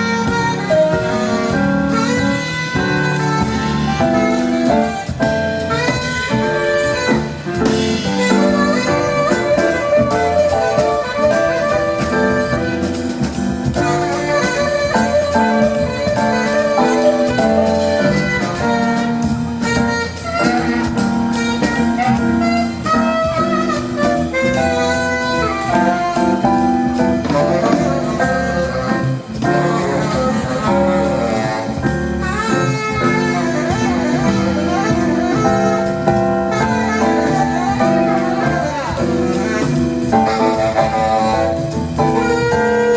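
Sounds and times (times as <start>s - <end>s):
bass: 0.0s - 42.9s
drums: 0.0s - 42.9s
horn melody: 0.0s - 42.9s
piano: 0.0s - 42.9s.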